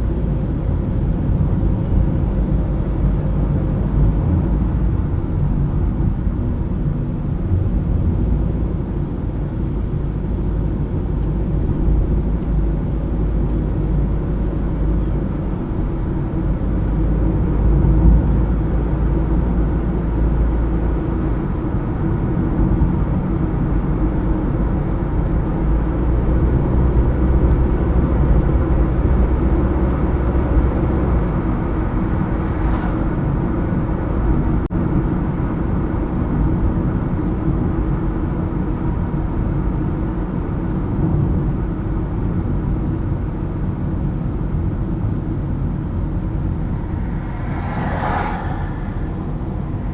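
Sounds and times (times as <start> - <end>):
car engine and tyres rumbling: 0.0 - 49.9.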